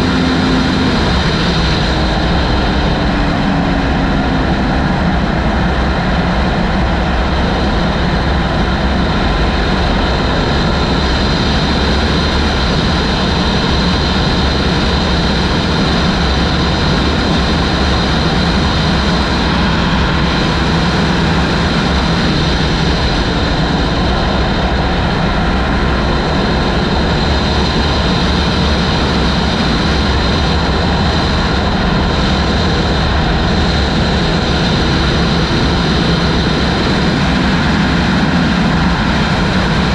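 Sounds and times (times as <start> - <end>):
motorcycle engine drone: 0.0 - 39.9
wind buffeting microphone: 0.0 - 39.9.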